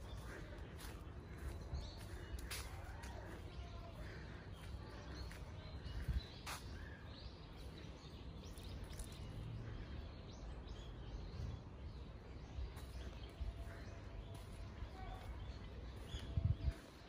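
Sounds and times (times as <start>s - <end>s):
low outdoor rumble: 0.0s - 16.6s
faint birds chirping: 0.0s - 17.0s.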